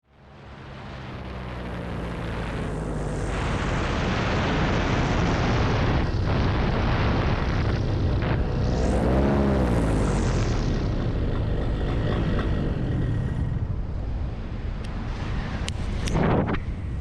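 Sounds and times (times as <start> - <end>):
paramotor engine droning: 0.0 - 17.0
broad rushing noise: 0.2 - 17.0.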